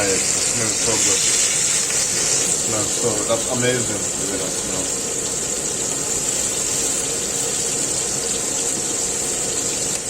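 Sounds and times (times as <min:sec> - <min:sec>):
chicken frying in hot oil: 0:00.0 - 0:10.0.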